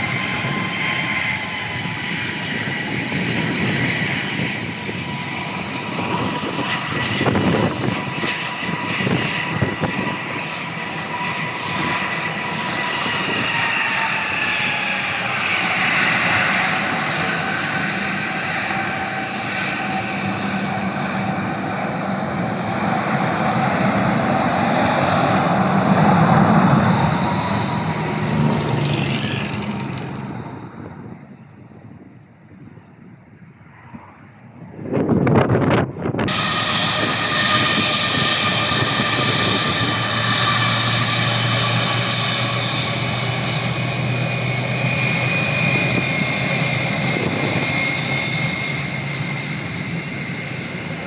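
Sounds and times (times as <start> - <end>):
airliner engines passing close: 0.0 - 51.0.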